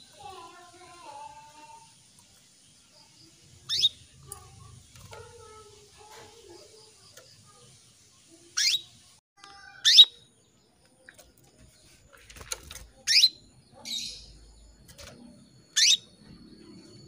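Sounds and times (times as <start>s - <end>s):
canary chirps: 0.0s - 17.0s.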